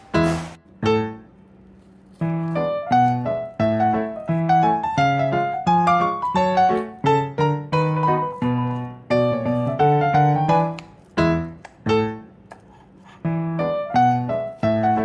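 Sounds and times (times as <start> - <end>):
solo piano melody: 0.0 - 12.6, 13.2 - 15.0.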